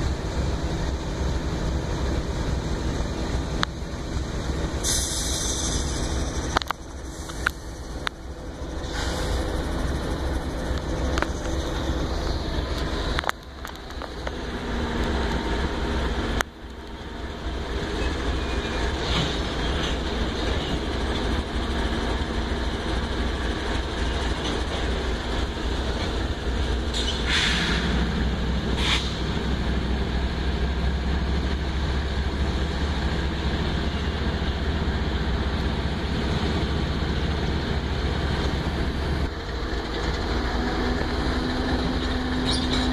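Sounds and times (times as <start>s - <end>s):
diesel locomotives rumbling: 0.0s - 42.9s
train wheels rolling on rails: 0.0s - 42.9s.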